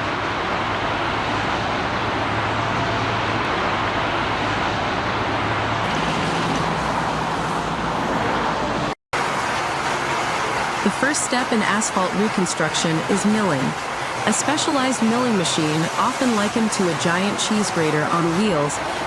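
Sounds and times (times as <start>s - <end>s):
heavy vehicle engine and road noise: 0.0s - 19.0s.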